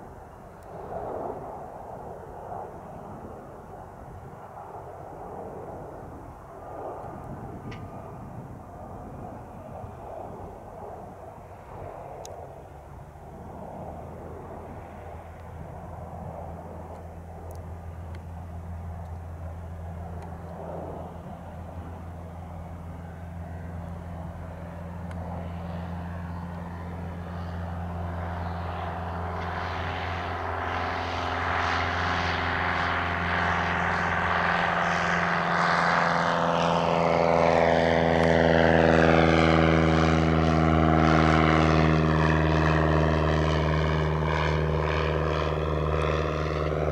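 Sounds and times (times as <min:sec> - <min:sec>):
light aircraft engine drone: 0:00.0 - 0:46.9.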